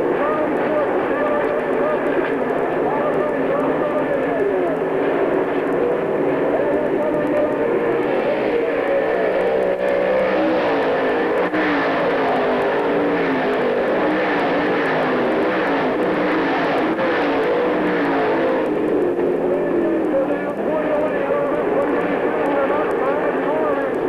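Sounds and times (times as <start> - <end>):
race car engines racing: 0.0 - 24.0.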